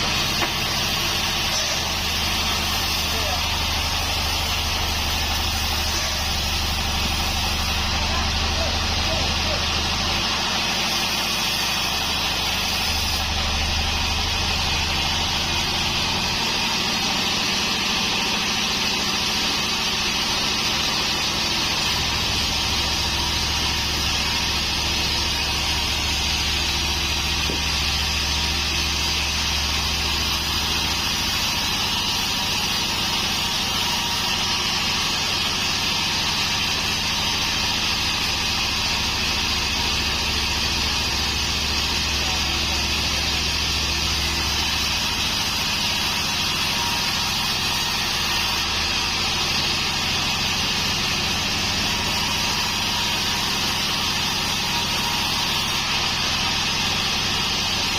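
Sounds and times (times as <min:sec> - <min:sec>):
band sawmill running: 0:00.0 - 0:57.9.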